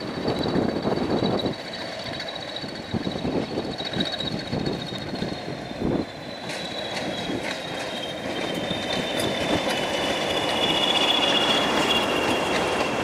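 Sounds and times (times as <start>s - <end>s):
locomotive rumble: 0.0s - 13.0s
train wheel squeal: 0.0s - 13.0s.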